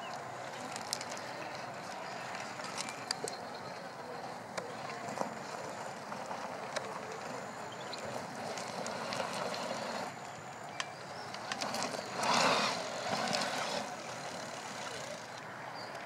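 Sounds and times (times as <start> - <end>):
gravel crunching under tyres: 0.0 - 16.0.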